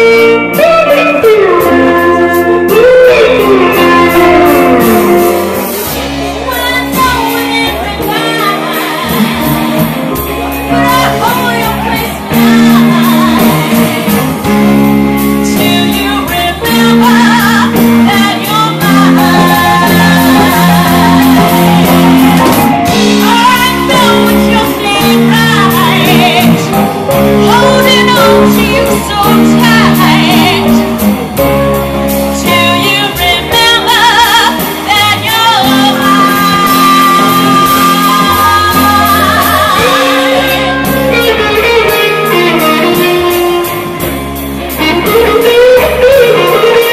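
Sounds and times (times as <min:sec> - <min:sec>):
woman singing with vibrato: 0:00.0 - 0:31.0, 0:32.4 - 0:43.1, 0:44.8 - 0:46.9
live band playing ballad: 0:00.0 - 0:46.9.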